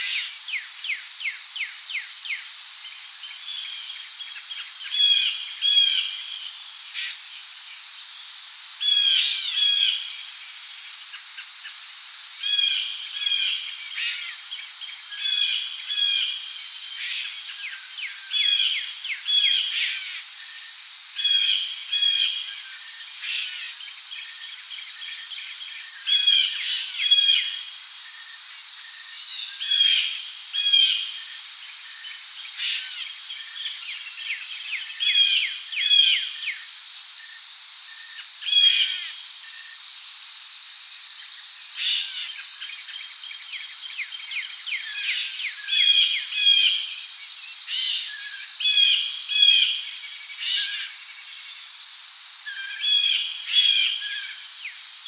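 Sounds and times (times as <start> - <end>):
crickets droning: 0.0 - 55.0.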